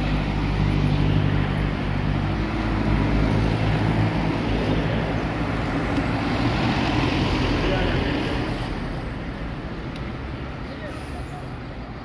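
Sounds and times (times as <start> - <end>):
highway traffic noise: 0.0 - 12.0.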